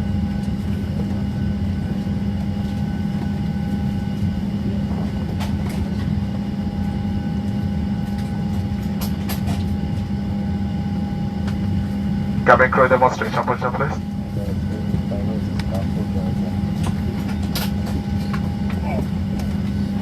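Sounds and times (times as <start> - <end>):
airplane cabin drone: 0.0 - 20.0.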